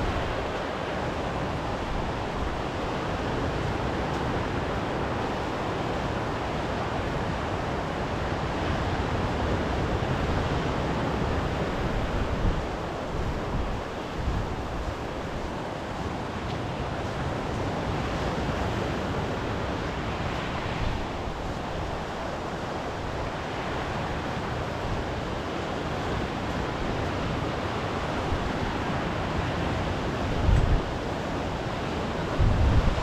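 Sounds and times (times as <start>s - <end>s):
waves washing onto beach: 0.0s - 33.0s
wind rumbling on microphone: 0.0s - 33.0s.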